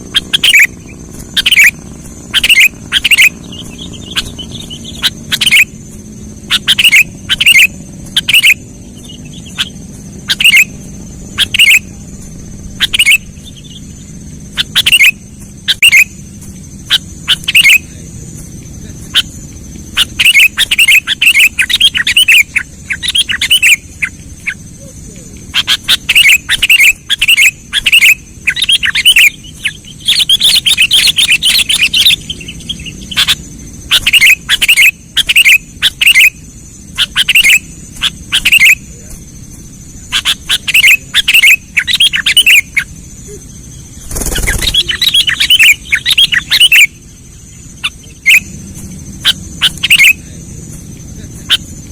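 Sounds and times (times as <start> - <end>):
bird chirping: 0.0 - 51.9.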